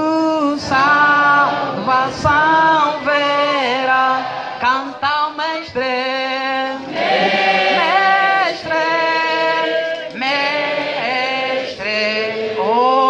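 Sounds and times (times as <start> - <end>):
man singing into microphone: 0.0 - 6.8, 8.5 - 13.0
group singing a hymn: 0.1 - 13.0.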